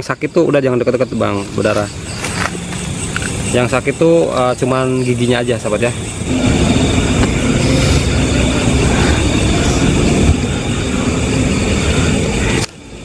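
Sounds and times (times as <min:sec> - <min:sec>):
vehicles passing on road: 0:01.3 - 0:13.0.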